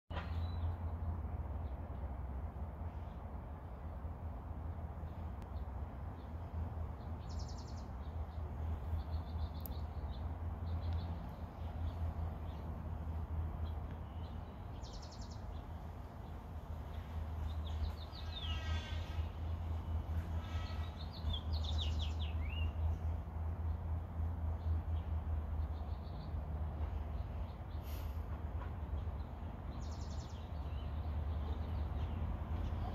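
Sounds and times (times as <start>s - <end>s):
birds chirping: 5.0s - 32.9s.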